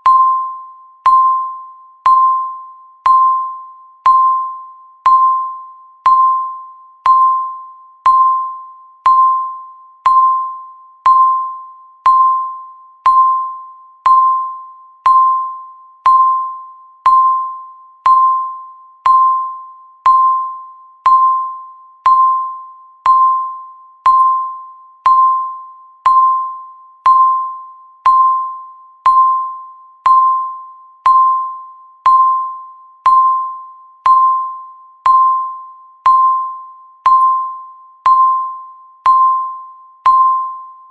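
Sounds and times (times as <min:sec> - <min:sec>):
countdown timer beeps: 0:00.0 - 0:40.9.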